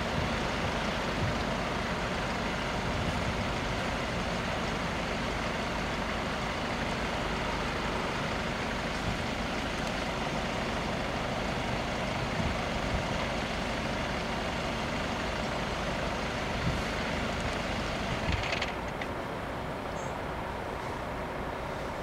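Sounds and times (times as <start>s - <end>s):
road vehicles rumbling: 0.0s - 22.0s.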